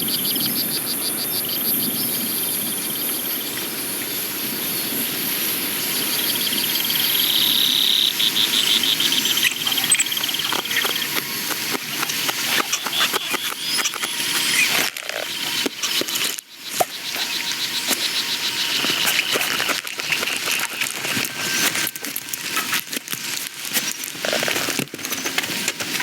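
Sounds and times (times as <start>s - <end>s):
high chirping insect trills: 0.0s - 26.0s.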